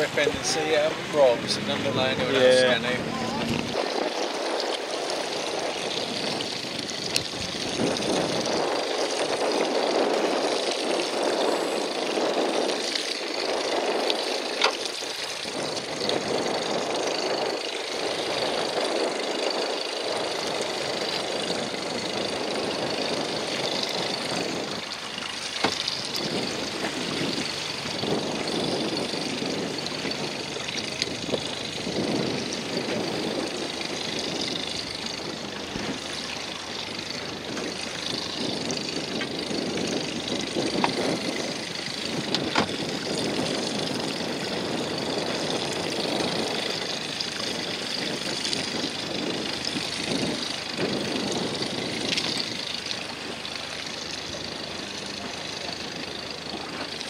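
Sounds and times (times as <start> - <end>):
rushing wind and water: 0.0 - 57.0
small boat motor running: 0.0 - 57.0.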